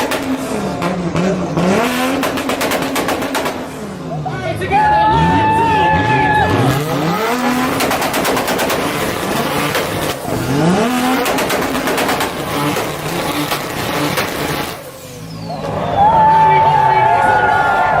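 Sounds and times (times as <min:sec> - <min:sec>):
exhaust pops and backfires: 0:00.0 - 0:04.2, 0:05.4 - 0:16.2
car engine revving: 0:00.0 - 0:17.6.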